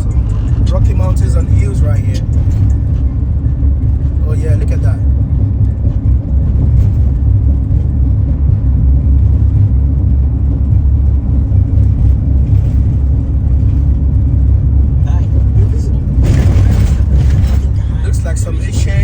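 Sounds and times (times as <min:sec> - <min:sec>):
vehicle road rumble: 0:00.0 - 0:19.0.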